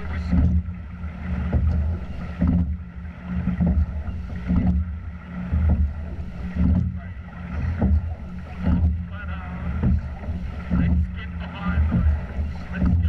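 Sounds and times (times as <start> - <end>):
oarlock clicking knocks: 0.0 - 13.0
water rushing along hull: 0.0 - 13.0.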